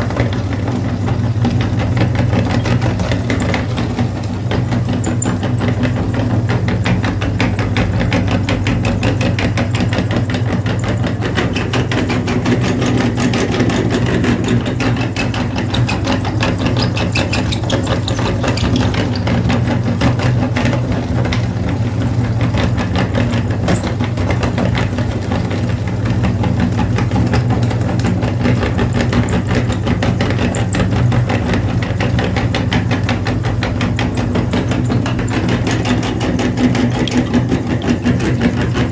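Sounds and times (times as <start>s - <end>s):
engine running with pulsing beat: 0.0s - 38.9s.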